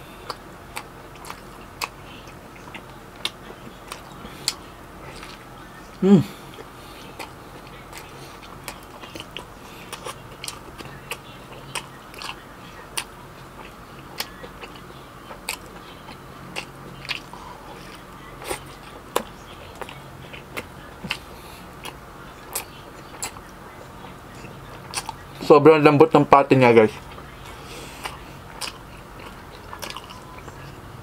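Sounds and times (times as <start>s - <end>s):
close chewing with mouth clicks: 0.0s - 25.5s, 26.7s - 31.0s.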